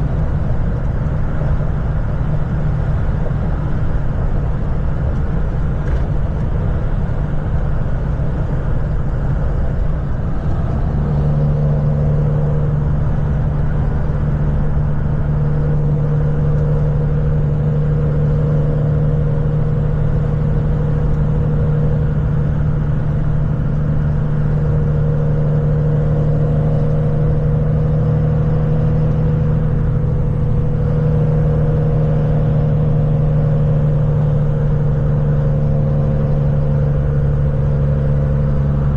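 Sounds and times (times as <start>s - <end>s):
steady low hum: 0.0s - 38.9s
vehicle engine and road noise: 0.0s - 38.9s.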